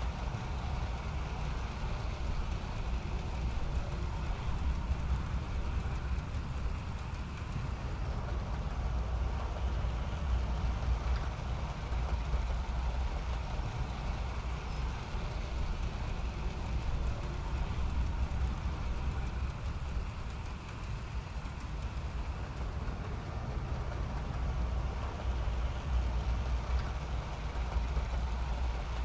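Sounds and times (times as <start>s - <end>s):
model train running on track: 0.0s - 29.0s.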